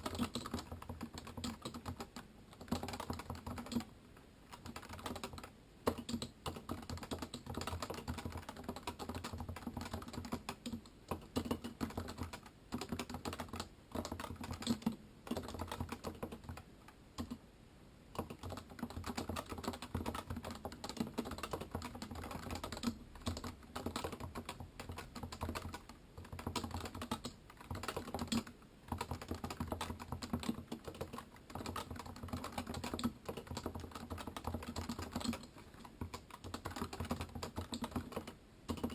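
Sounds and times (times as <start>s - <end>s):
soft muted keyboard typing: 0.0s - 17.5s, 18.1s - 38.9s.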